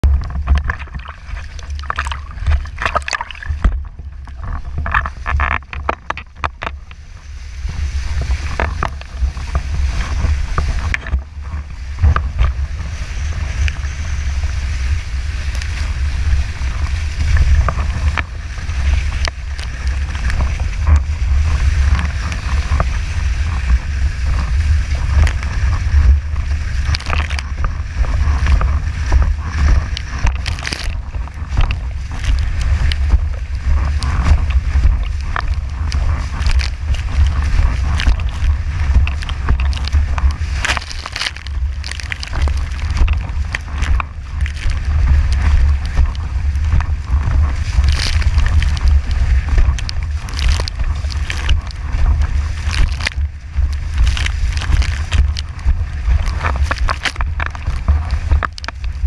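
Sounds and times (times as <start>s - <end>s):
hull slapping on water: 0.0s - 6.8s, 14.5s - 59.0s
rush of wind and water: 0.0s - 59.0s
water splashing around board: 0.0s - 59.0s
wind buffeting microphone: 0.0s - 59.0s.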